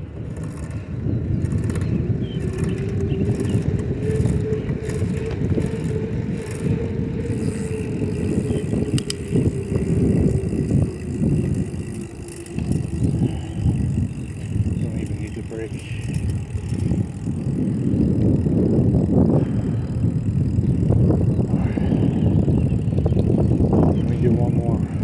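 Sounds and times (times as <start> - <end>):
bicycle tyres rolling on pavement: 0.0 - 25.0
faint hum: 0.0 - 25.0
wind buffeting microphone: 0.0 - 25.0.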